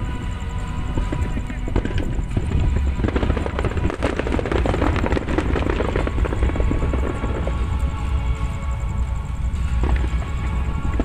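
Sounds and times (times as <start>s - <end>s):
continuous low rumble: 0.0s - 11.0s
fireworks crackling and popping: 0.8s - 11.0s.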